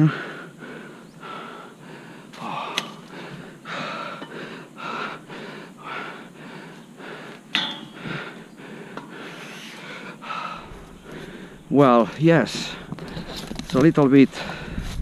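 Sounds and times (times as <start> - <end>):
person breathing hard: 0.0 - 13.5, 14.3 - 15.0.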